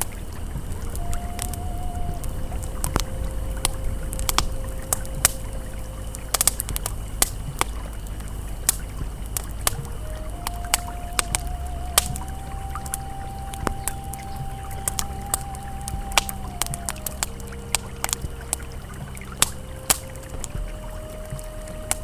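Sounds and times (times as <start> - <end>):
campfire crackling and popping: 0.0 - 22.0
faint ambient tone: 0.0 - 22.0
river flowing: 0.0 - 22.0.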